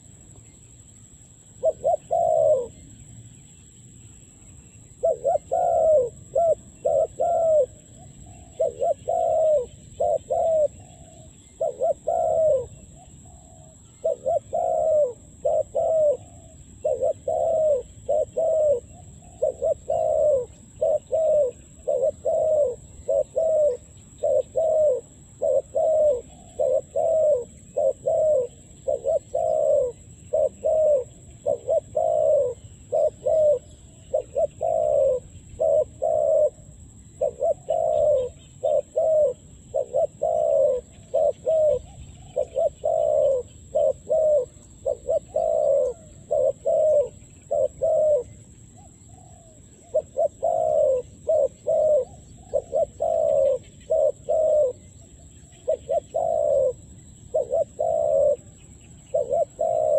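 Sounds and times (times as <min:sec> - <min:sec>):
dove cooing: 0:00.0 - 0:03.0, 0:04.8 - 0:59.9.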